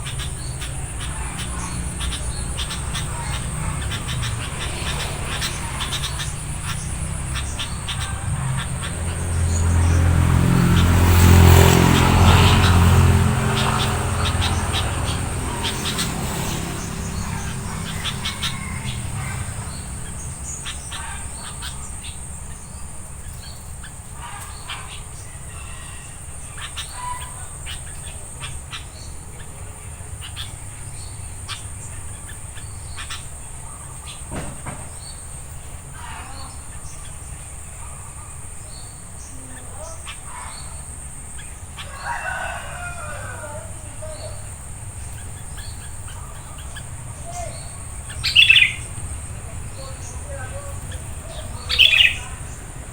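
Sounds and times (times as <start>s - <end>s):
bird chirps: 0.0s - 52.9s
motor vehicle engine: 0.0s - 52.9s.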